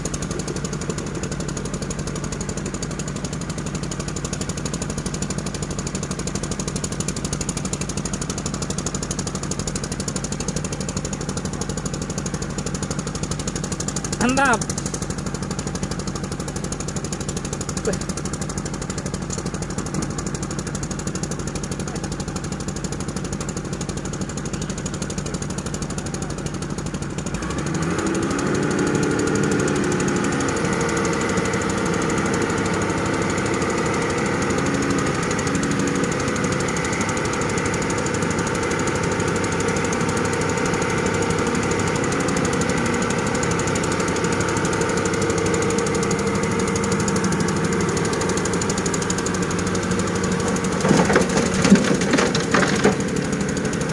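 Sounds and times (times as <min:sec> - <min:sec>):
excavator diesel engine: 0:00.0 - 0:53.9.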